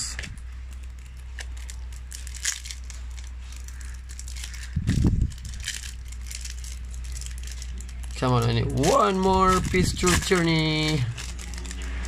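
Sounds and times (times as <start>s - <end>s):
wrapper crinkling: 0.2s - 12.0s.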